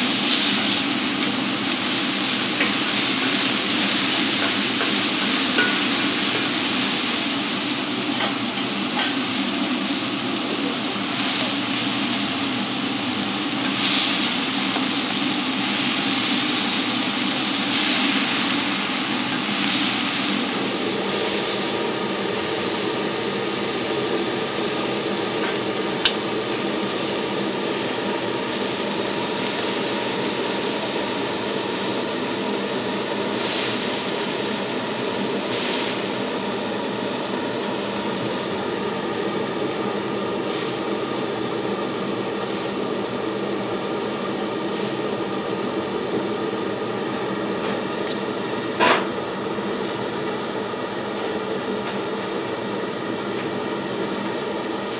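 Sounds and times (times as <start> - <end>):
cooking hiss: 0.0 - 54.9.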